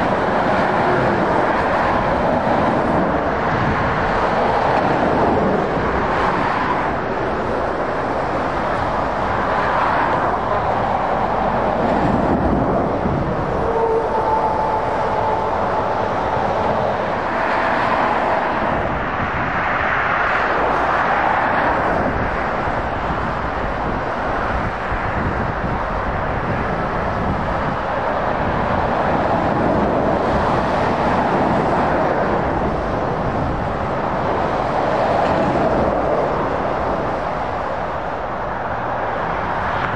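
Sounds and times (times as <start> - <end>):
motorway traffic passing: 0.0 - 39.9.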